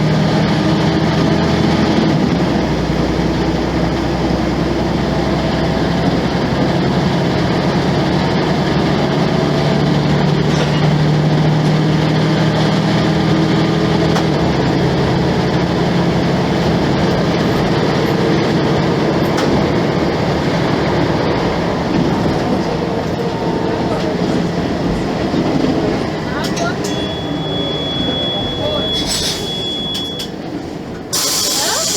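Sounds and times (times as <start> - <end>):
bus diesel engine droning: 0.0 - 31.9.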